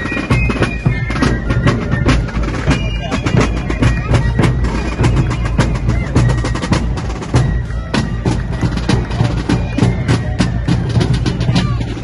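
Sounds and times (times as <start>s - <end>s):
snare drum strikes and rolls: 0.0s - 12.0s.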